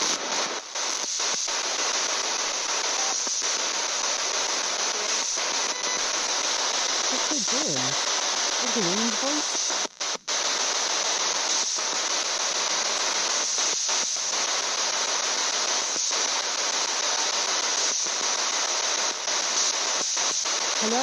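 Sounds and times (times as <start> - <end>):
radio static sweeping: 0.0 - 19.8, 20.6 - 21.0.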